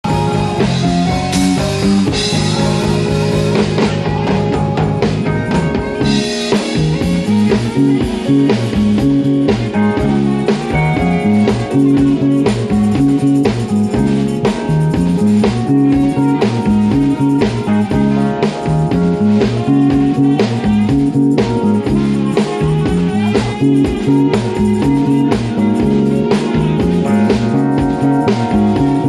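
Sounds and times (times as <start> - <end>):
bass line: 0.0 - 29.0
drum kit beat: 0.0 - 29.0
guitar: 0.0 - 29.0
sustained chords: 0.0 - 29.0.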